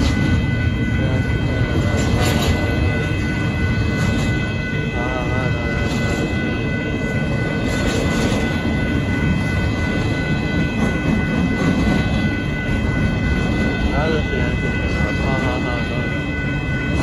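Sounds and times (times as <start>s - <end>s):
steady high tones: 0.0s - 17.0s
train wheels rumbling on rails: 0.0s - 17.0s.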